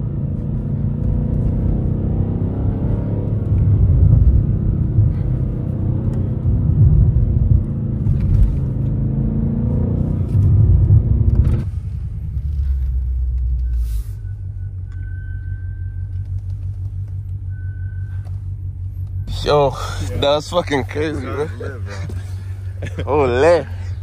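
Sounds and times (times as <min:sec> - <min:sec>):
car engine revving from cabin: 0:00.0 - 0:24.0.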